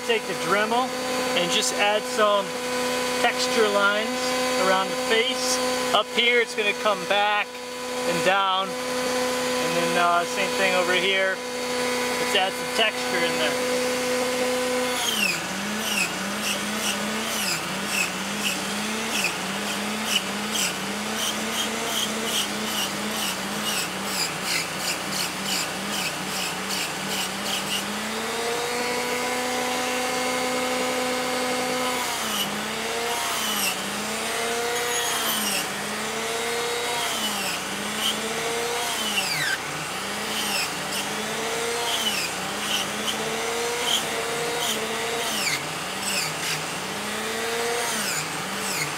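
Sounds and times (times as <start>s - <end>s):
rotary tool motor whine: 0.0s - 48.9s.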